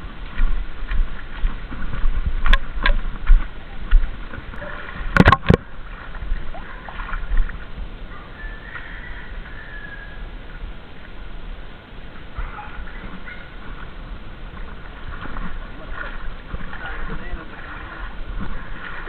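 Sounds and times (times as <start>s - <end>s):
water sloshing: 0.0s - 19.0s.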